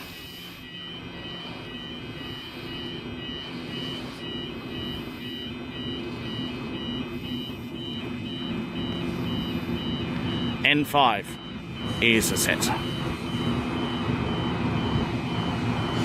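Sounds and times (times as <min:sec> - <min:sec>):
high electronic warning beep: 0:00.0 - 0:16.0
railcar engine hum: 0:00.0 - 0:16.0.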